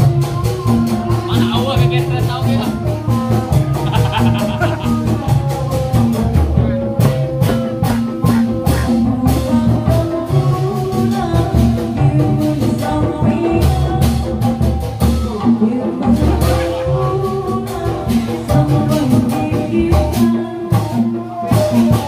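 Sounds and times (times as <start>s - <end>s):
dangdut music with drums and bass: 0.0s - 22.0s.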